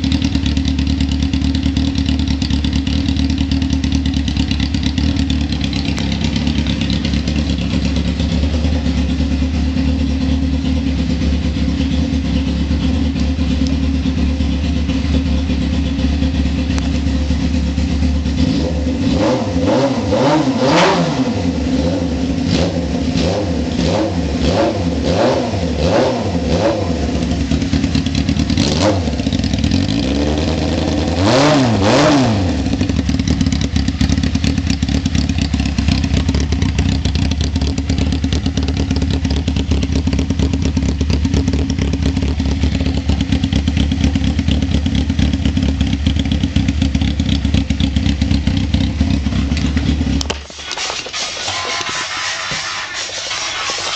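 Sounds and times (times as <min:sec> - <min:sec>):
unmuffled motorcycle engine revving: 0:00.0 - 0:53.9.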